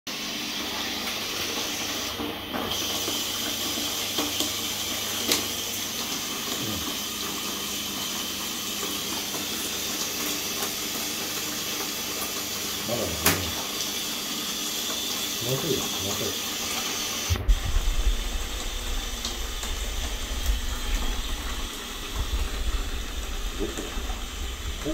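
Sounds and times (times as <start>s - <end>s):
water pouring into plastic tub: 0.1s - 24.9s.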